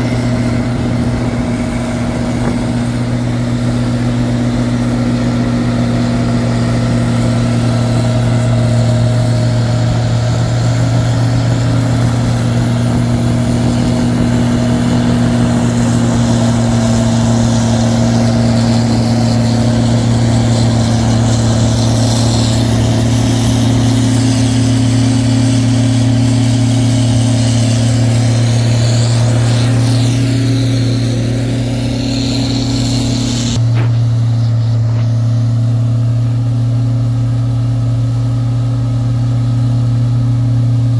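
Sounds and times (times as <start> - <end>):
diesel engine under load: 0.0 - 40.9
snow blower rushing: 0.0 - 40.9.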